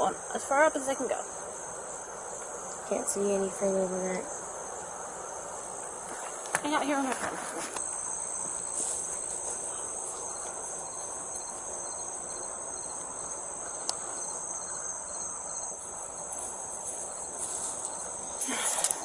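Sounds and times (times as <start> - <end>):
low background hiss: 0.0 - 19.0
night insects trilling: 0.0 - 19.0.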